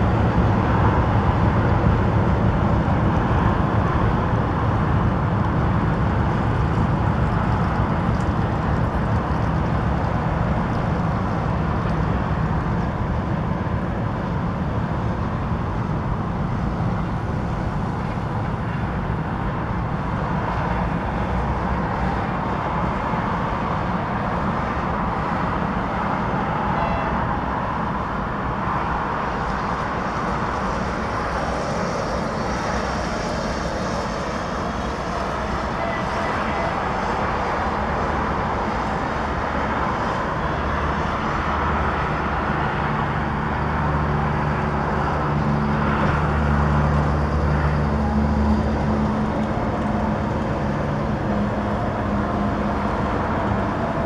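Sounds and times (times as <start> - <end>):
diesel locomotive engine drone: 0.0 - 54.0
train rolling noise: 0.0 - 54.0.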